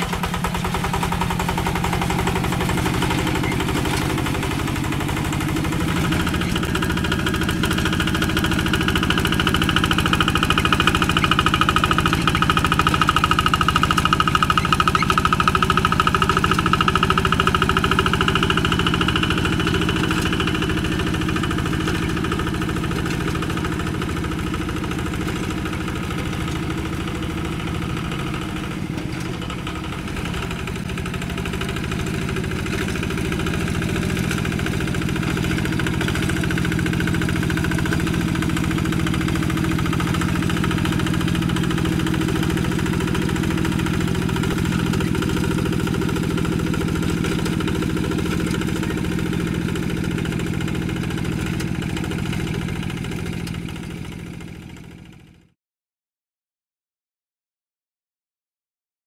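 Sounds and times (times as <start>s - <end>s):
diesel hand tractor engine: 0.0s - 55.5s.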